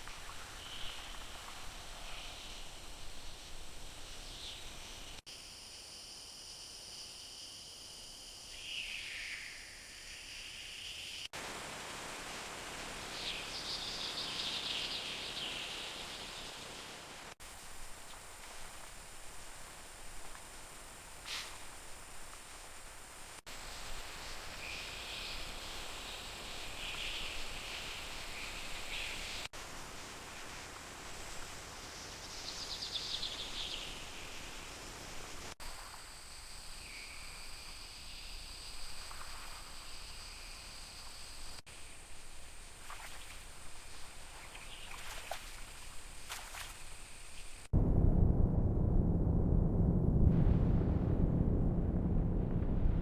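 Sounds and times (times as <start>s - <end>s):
insect chorus buzzing: 0.0s - 11.3s, 12.8s - 29.5s, 31.2s - 47.7s
steady rainforest hiss: 0.0s - 47.7s.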